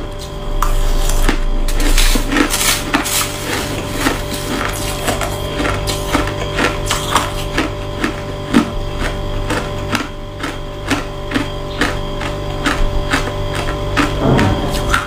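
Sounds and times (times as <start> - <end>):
chewing crunchy ice: 0.6 - 15.0.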